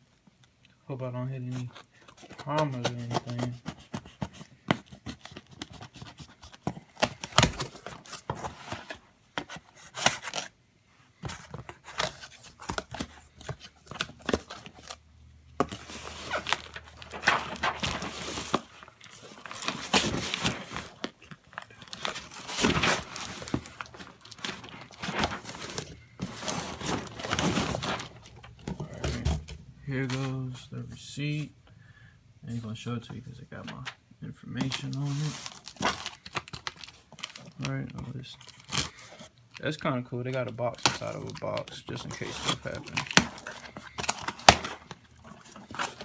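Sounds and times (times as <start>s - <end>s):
cardboard scraping and crinkling: 1.5s - 10.5s, 11.2s - 15.0s, 15.6s - 31.0s, 34.6s - 39.3s, 40.3s - 46.0s.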